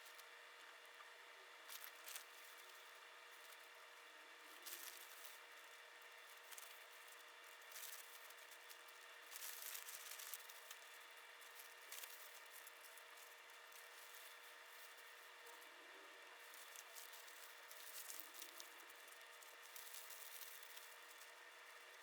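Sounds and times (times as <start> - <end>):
faint rustling and scraping handling: 1.6 - 22.0.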